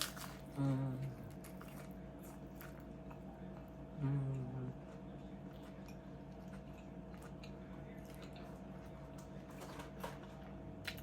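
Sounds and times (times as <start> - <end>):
faint steady hum: 0.0 - 11.0
person chewing food: 0.0 - 11.0.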